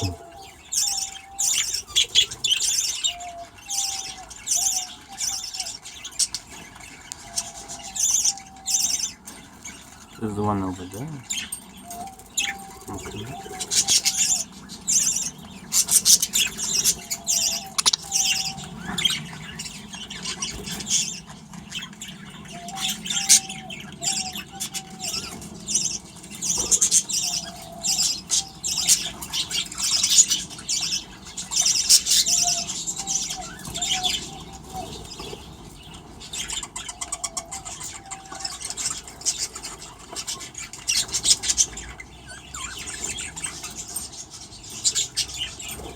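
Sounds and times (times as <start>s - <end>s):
budgerigars chattering and squawking: 0.0s - 45.9s.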